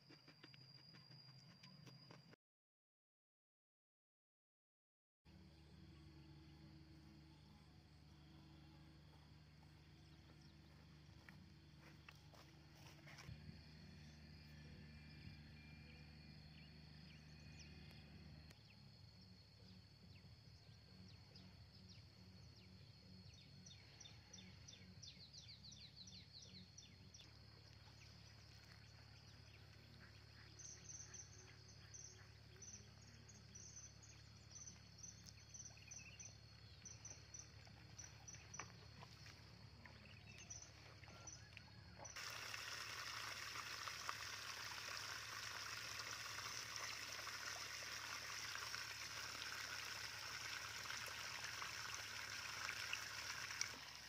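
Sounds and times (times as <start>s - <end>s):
low hum: 5.3s - 54.0s.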